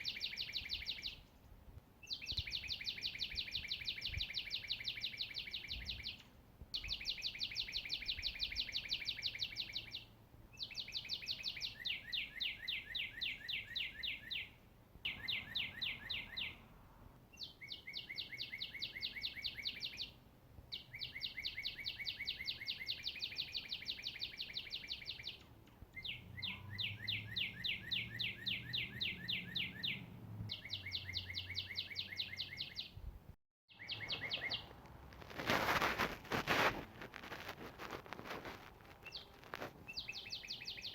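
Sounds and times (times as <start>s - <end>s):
songbird trilling: 0.0s - 1.2s, 2.0s - 6.2s, 6.8s - 16.6s, 17.4s - 33.0s, 33.7s - 34.7s, 39.0s - 40.9s.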